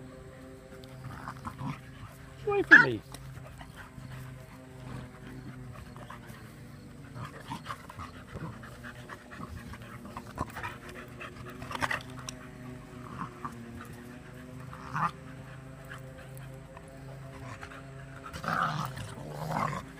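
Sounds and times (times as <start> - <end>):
dogs panting and snuffling: 0.0 - 19.9
low steady hum: 0.0 - 19.9.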